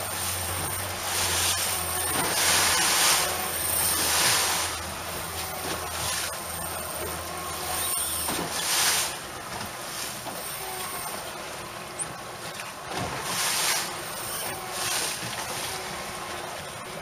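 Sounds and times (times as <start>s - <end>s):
boat engine hum: 0.0s - 17.0s
water rushing past hull: 0.0s - 17.0s.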